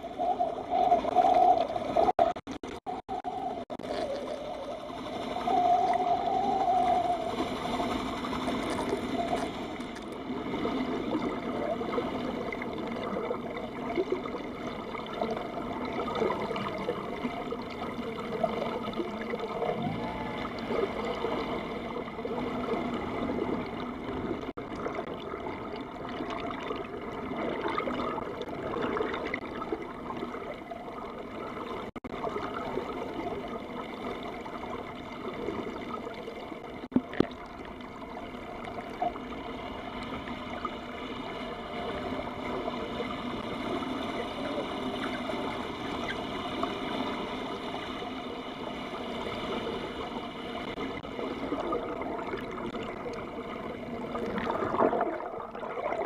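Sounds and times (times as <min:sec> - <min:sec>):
underwater water rushing along hull: 0:00.0 - 0:56.0.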